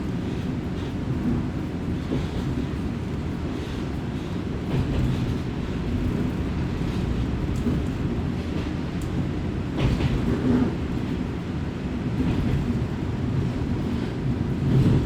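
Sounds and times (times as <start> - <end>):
train engine and wheels rumbling: 0.0 - 15.0.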